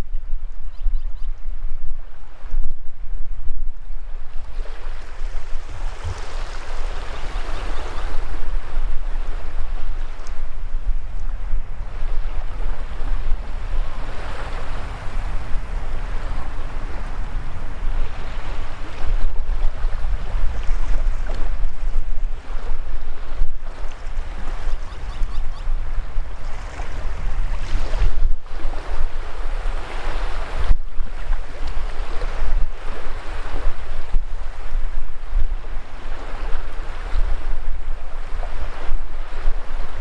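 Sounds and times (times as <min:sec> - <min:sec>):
wind rumble on microphone: 0:00.0 - 0:40.0
small waves washing on sand: 0:04.0 - 0:40.0.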